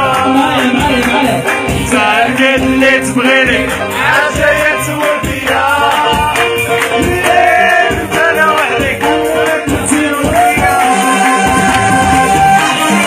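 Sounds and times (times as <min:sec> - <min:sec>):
man singing live: 0:00.0 - 0:13.0
percussion beat and backing instruments: 0:00.0 - 0:13.0.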